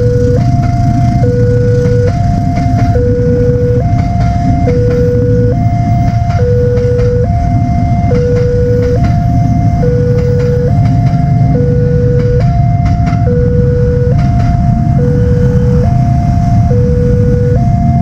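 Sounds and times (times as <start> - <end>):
train wheels clacking: 0.0 - 13.3, 14.0 - 16.4
train rumbling past: 0.0 - 18.0
two-tone crossing alarm: 0.0 - 18.0.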